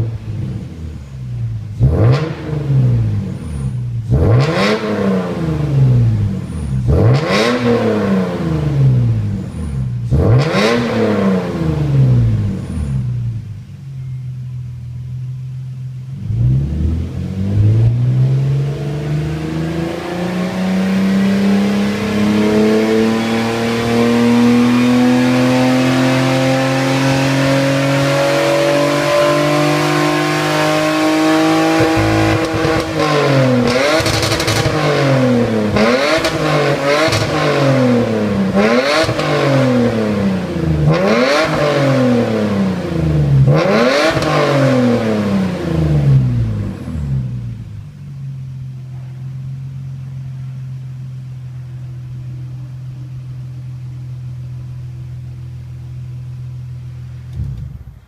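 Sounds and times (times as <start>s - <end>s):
car engine revving: 0.0s - 13.7s, 15.0s - 58.0s.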